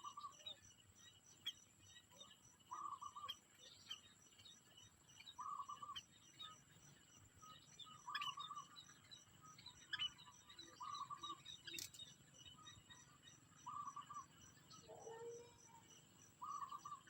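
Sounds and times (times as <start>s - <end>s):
faint high bird chirps: 0.0s - 17.0s.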